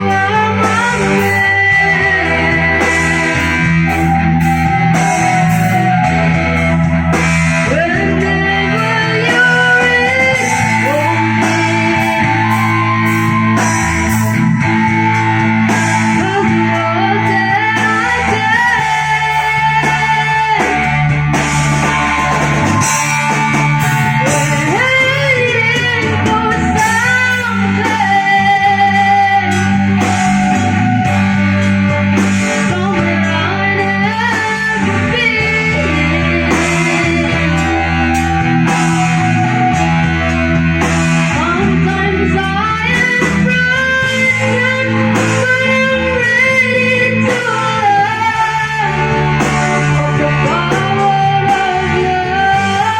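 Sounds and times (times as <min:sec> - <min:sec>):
live band playing: 0:00.0 - 0:52.9
low bass notes: 0:00.0 - 0:52.9.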